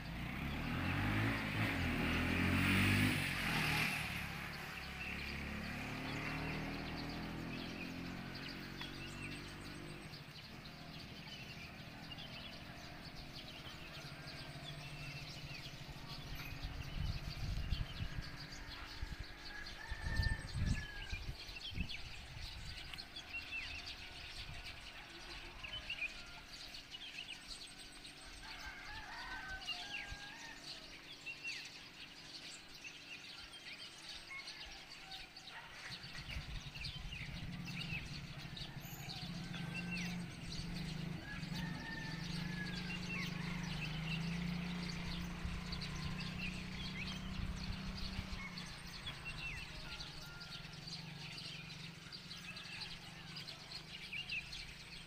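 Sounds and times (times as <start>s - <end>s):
faint outdoor background noise: 0.0s - 55.0s
small birds chirping: 0.0s - 55.0s.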